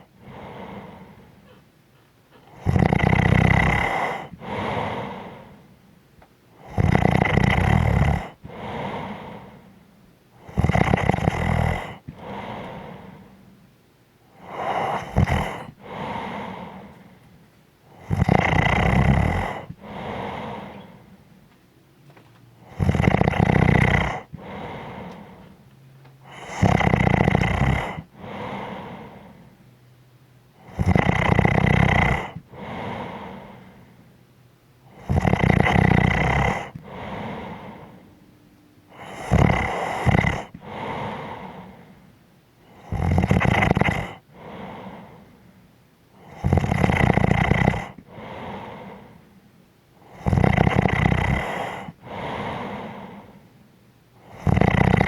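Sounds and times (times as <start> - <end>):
person snoring: 0.0 - 1.6, 2.3 - 5.7, 6.6 - 9.8, 10.4 - 13.4, 14.3 - 17.2, 17.9 - 21.2, 22.6 - 25.6, 26.2 - 29.5, 30.6 - 34.0, 34.9 - 38.0, 38.9 - 45.4, 46.2 - 49.3, 50.0 - 53.5, 54.2 - 55.0.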